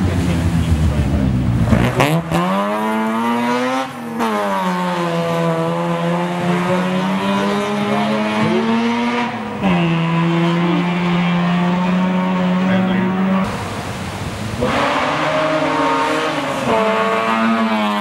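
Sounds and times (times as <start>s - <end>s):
car engine revving hard: 0.0s - 18.0s.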